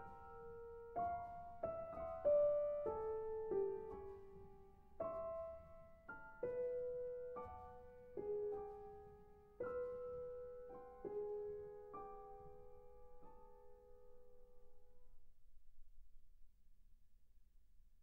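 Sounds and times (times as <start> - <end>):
solo piano notes and chords: 0.0 - 16.3.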